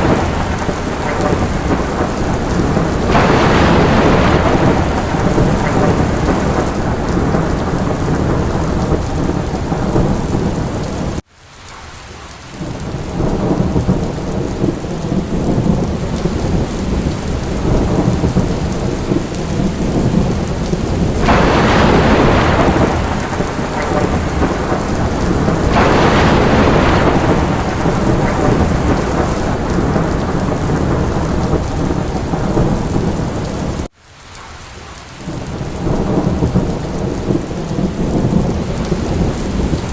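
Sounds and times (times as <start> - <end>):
low rumble of thunder: 0.0 - 11.2, 12.6 - 33.9, 35.2 - 39.9
heavy rain: 0.0 - 39.9.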